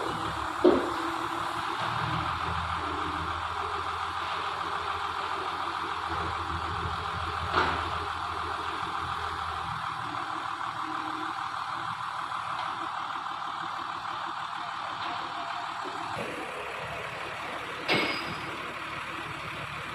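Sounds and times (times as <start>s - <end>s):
heavy vehicle engine running: 0.0s - 19.9s.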